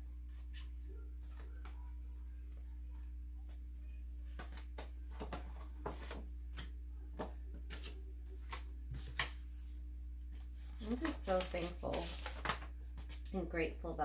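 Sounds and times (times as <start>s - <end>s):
steady low hum: 0.0s - 14.0s
paper card rustling: 0.3s - 13.4s.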